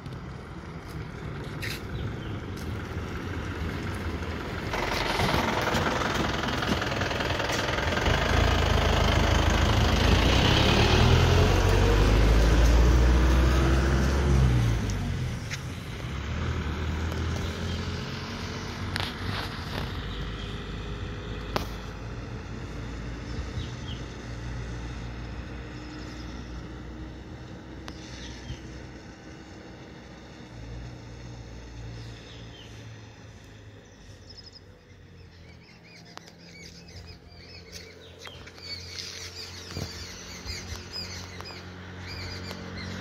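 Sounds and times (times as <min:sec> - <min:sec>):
bus diesel engine revving: 0:00.0 - 0:43.0.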